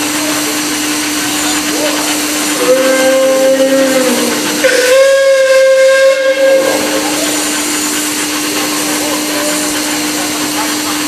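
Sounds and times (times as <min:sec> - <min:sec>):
steady background hum: 0:00.0 - 0:11.0
steam locomotive whistle: 0:01.3 - 0:11.0.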